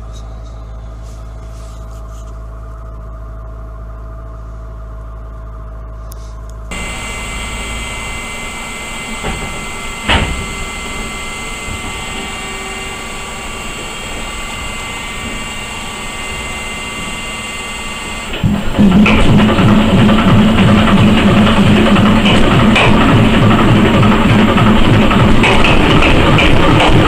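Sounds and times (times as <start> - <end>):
diesel engine with high whine: 0.0 - 27.0.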